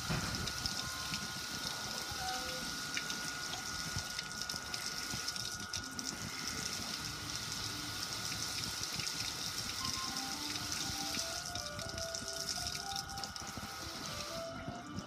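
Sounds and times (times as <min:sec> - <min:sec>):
water pouring onto metal: 0:00.0 - 0:15.0.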